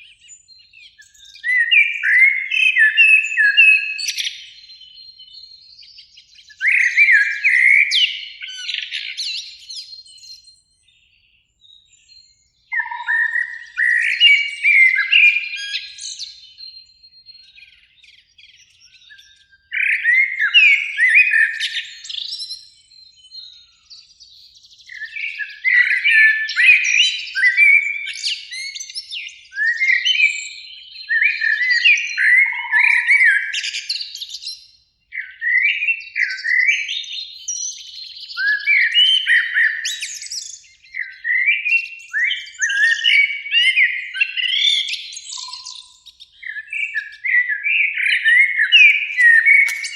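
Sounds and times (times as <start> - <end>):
blackbirds singing: 0.0 - 49.9.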